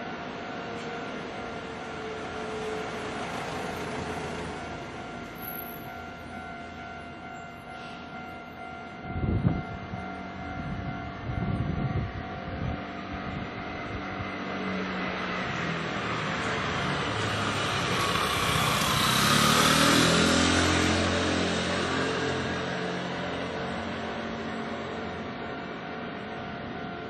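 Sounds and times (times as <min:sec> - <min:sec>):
crossing warning bell ringing: 0:00.0 - 0:27.0
train wheels rumbling: 0:00.7 - 0:25.4.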